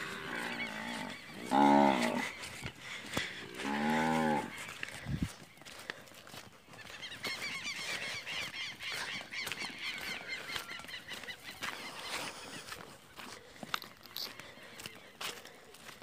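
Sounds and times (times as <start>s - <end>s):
birds chattering: 0.0s - 16.0s
footsteps on stony track: 0.0s - 16.0s.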